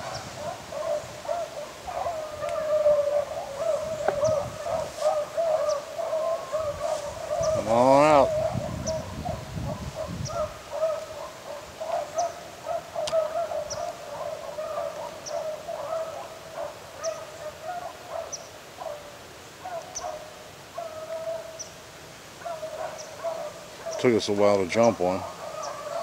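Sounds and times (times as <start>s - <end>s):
hounds baying: 0.0s - 26.0s.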